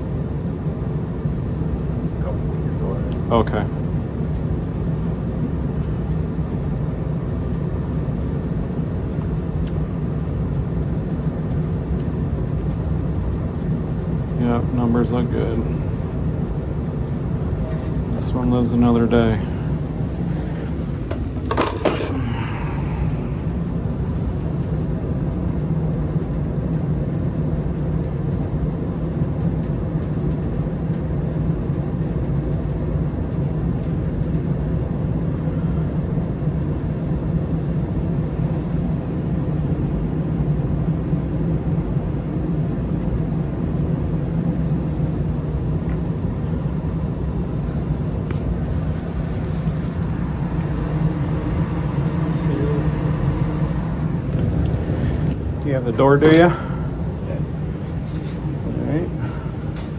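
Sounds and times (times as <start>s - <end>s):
gas furnace rumbling: 0.0s - 59.9s.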